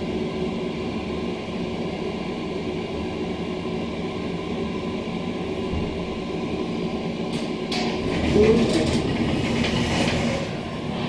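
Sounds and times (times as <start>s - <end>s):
elevator car running hum: 0.0s - 11.0s.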